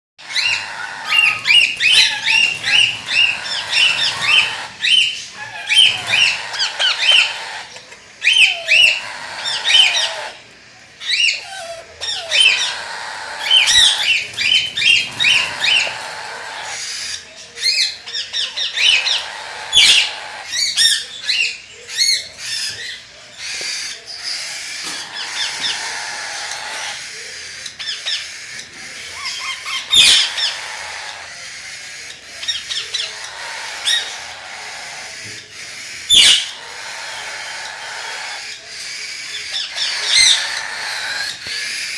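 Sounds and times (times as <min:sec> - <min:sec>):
parakeets squawking: 0:00.2 - 0:41.9.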